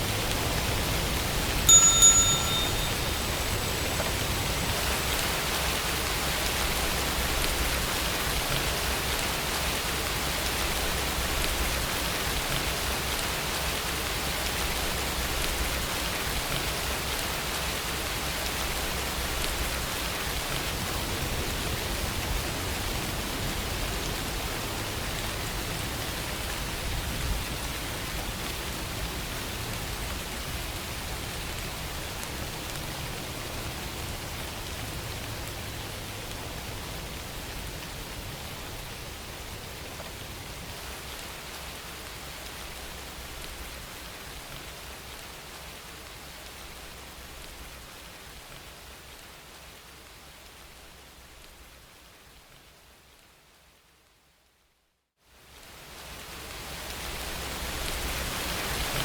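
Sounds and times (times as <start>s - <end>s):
steady rainfall: 0.0s - 54.6s, 55.2s - 59.0s.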